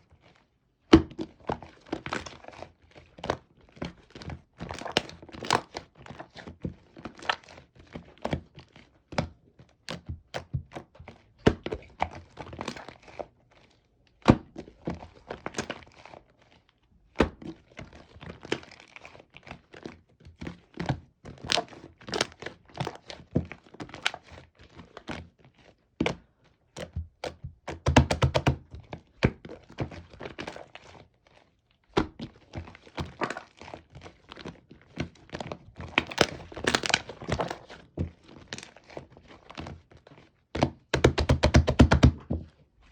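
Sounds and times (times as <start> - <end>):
hands squishing slime: 0.9 - 42.3.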